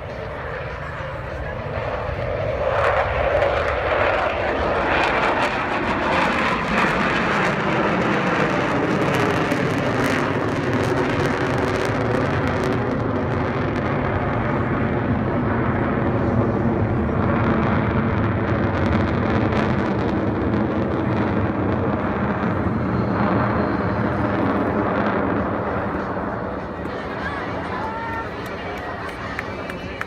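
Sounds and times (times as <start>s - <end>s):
aircraft engines rushing: 0.0s - 30.0s.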